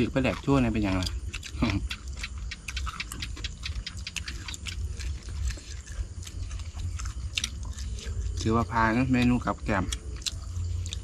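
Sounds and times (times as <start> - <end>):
person chewing with wet smacks: 0.0 - 11.0.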